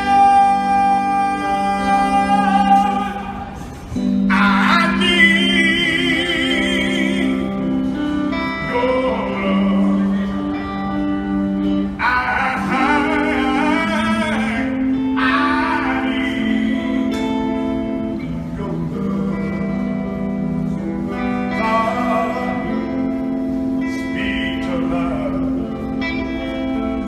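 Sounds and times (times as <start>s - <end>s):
man singing with vibrato: 0.0s - 27.0s.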